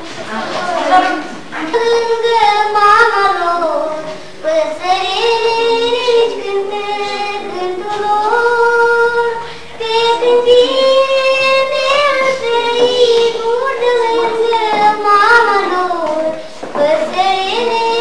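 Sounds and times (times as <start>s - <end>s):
girl singing: 0.6s - 18.0s.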